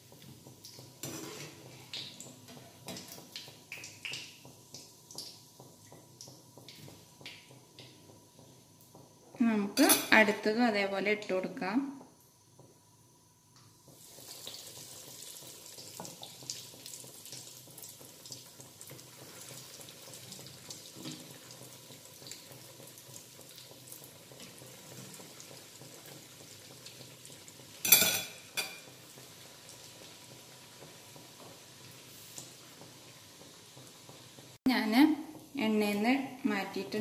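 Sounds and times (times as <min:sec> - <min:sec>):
cutlets sizzling in hot oil: 0:00.0 - 0:10.6, 0:13.6 - 0:34.7.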